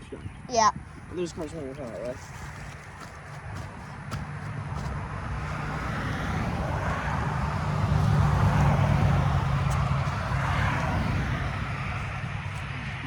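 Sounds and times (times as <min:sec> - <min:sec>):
car passing on road: 0:02.2 - 0:13.0.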